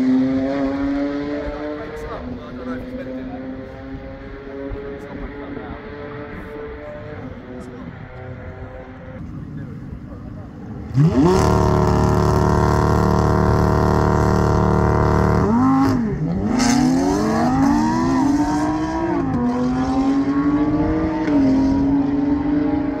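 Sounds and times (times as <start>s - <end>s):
racing car engines revving: 0.0s - 23.0s.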